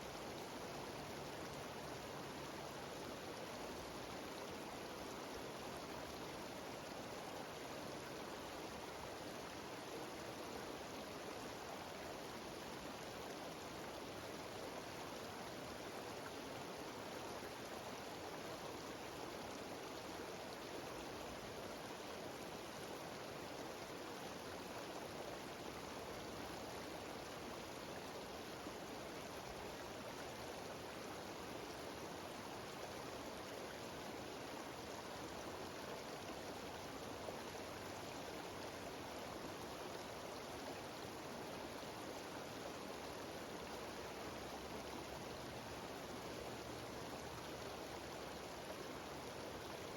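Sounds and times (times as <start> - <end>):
mountain stream rushing: 0.0 - 49.9.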